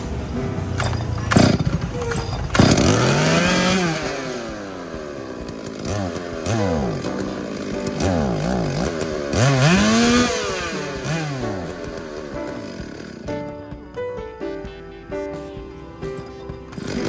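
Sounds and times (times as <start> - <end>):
chainsaw engine revving: 0.7 - 13.9, 16.2 - 17.0.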